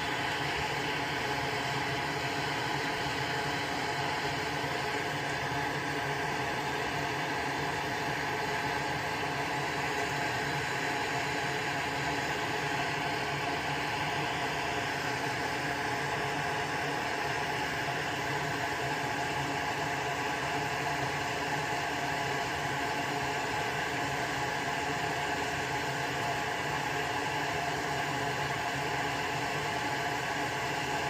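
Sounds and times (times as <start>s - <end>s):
electric fan whirring: 0.0s - 31.0s.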